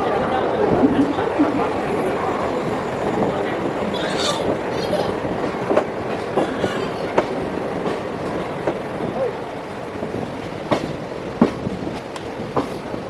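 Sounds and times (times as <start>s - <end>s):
train rumble: 0.0s - 13.0s
wheels clacking over rail joints: 0.6s - 13.0s.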